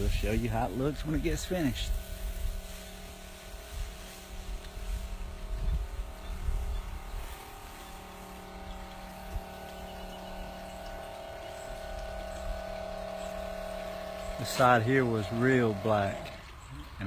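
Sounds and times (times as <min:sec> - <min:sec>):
wind buffeting microphone: 0:00.0 - 0:15.8
engine humming: 0:00.0 - 0:17.0.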